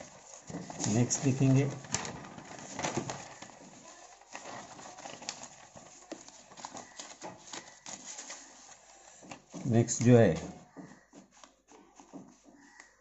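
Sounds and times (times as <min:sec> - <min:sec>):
paper pages turning: 0:00.0 - 0:13.0.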